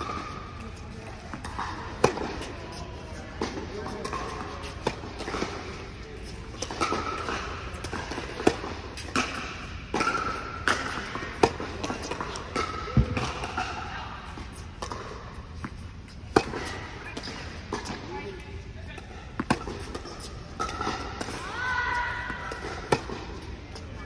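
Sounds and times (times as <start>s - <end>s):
racket hitting tennis ball: 0.0s - 2.6s, 3.2s - 18.4s, 19.0s - 23.8s
tennis ball bouncing: 0.0s - 18.4s, 19.0s - 21.4s, 22.0s - 23.8s.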